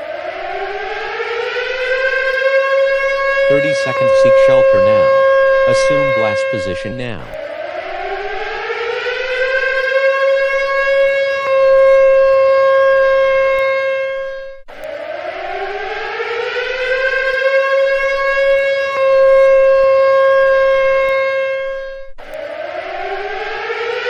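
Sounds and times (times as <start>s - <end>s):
civil defense siren: 0.0s - 24.0s.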